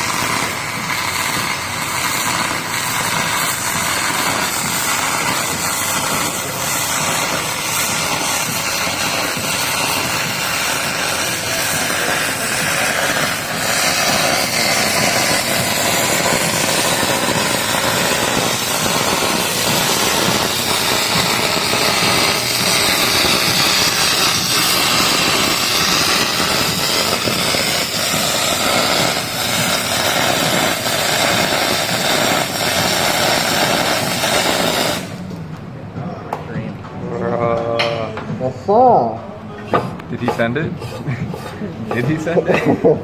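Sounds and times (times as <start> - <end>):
welding arc hissing and crackling: 0.0 - 35.4, 40.1 - 43.0.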